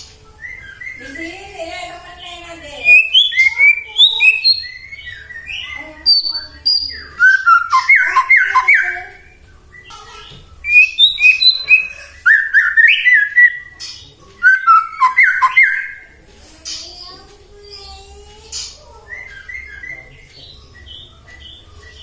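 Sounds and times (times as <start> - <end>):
bird singing whistled notes: 0.0 - 16.2, 18.9 - 22.0.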